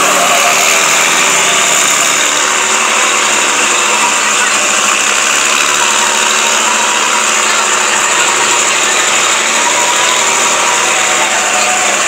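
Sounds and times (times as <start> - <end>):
loud background din: 0.0 - 12.0
truck engine idling: 0.0 - 12.0.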